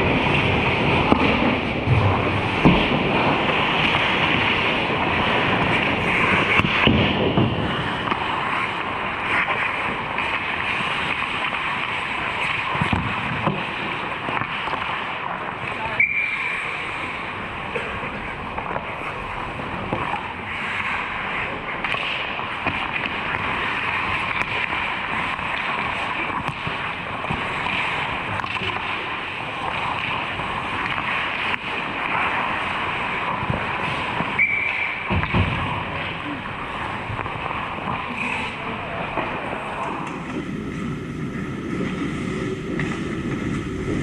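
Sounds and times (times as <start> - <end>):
hockey sticks and puck knocking: 0.0 - 16.9, 17.6 - 40.4
skates scraping on ice: 0.0 - 44.0.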